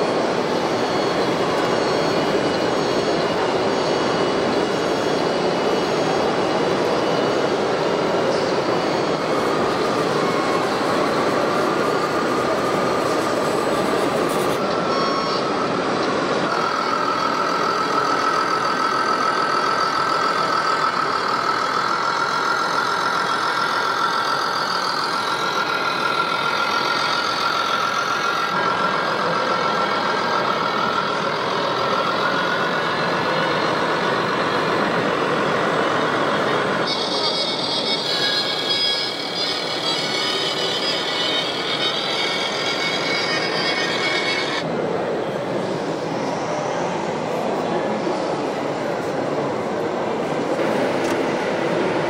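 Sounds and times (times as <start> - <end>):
model trucks high whine: 0.0 - 52.0
model trucks running noise: 0.0 - 52.0.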